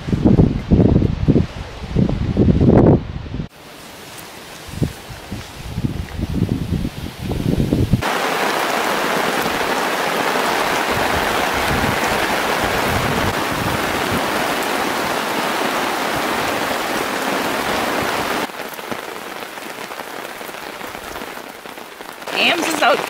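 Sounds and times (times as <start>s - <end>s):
heavy rain falling: 3.4s - 23.0s.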